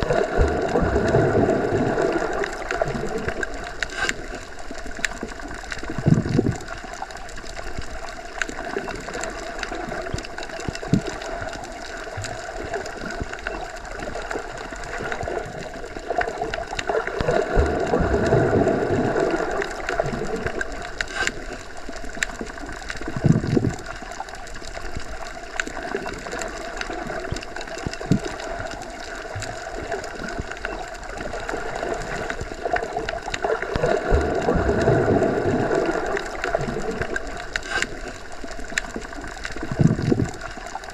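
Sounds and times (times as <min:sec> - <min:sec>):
underwater rumble and hiss: 0:00.0 - 0:40.9.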